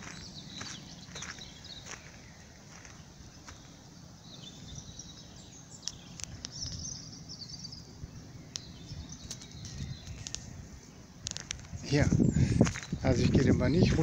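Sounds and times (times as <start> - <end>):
bird chirping in high trills: 0.0 - 14.0.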